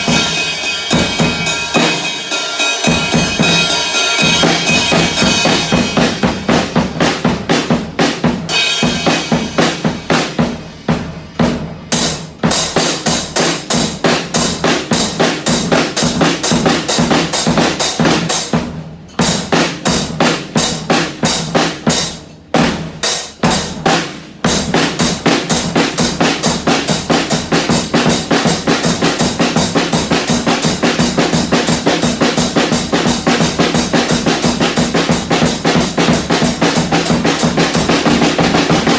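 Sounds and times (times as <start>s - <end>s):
drum kit played with sticks: 0.0s - 38.9s.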